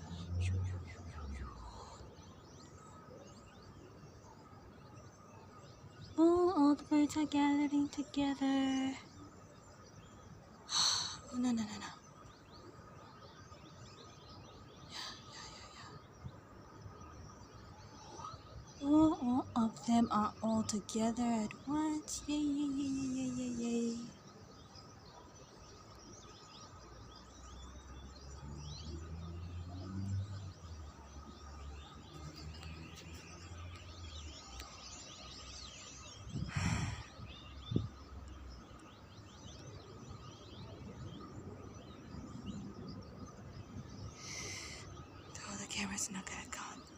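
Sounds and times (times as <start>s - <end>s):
flock of birds chirping: 0.0s - 46.9s.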